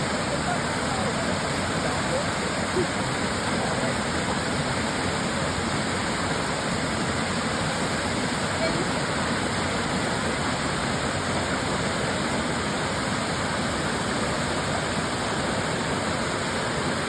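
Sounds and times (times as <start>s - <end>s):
waterfall splashing: 0.0s - 17.0s.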